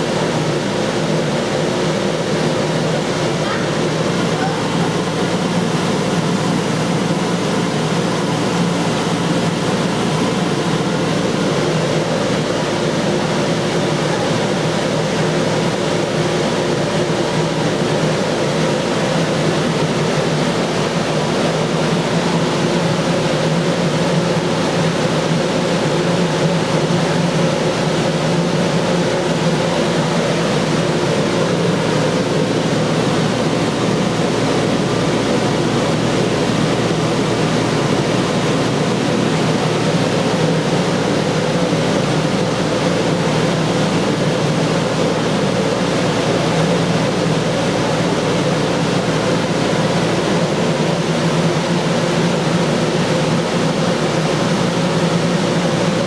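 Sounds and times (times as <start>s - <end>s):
electric blower fans rushing: 0.0s - 56.0s.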